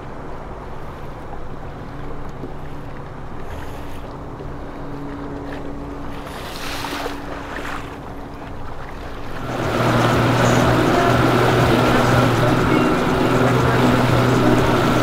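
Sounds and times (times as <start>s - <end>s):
boat engines humming: 0.0s - 15.0s
rushing wake on water: 0.0s - 15.0s.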